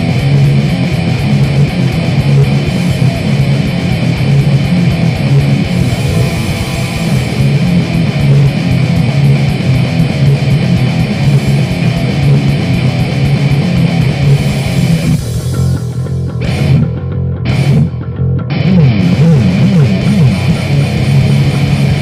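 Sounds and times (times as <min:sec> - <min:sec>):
distorted electric guitar and bass: 0:00.0 - 0:22.0.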